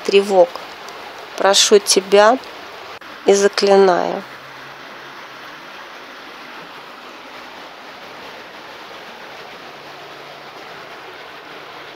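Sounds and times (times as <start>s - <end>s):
river water rushing: 0.0s - 11.9s.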